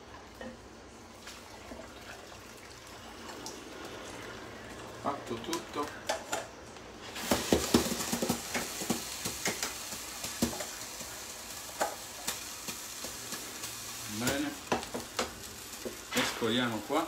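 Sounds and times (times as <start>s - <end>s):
soup sizzling: 0.0s - 17.0s.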